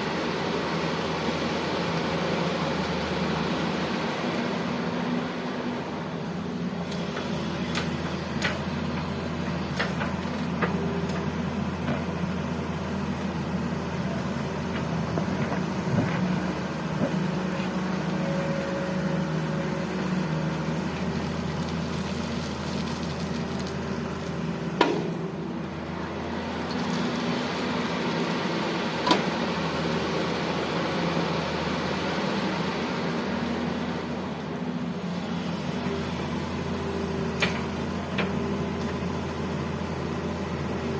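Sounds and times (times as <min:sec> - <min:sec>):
excavator working: 0:00.0 - 0:40.9.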